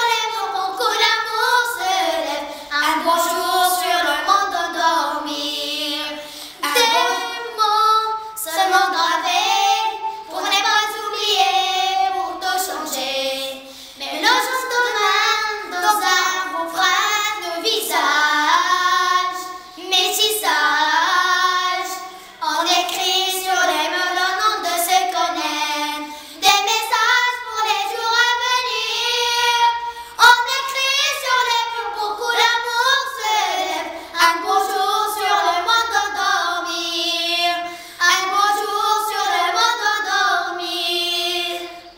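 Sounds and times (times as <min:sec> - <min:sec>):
girls singing: 0:00.0 - 0:41.9.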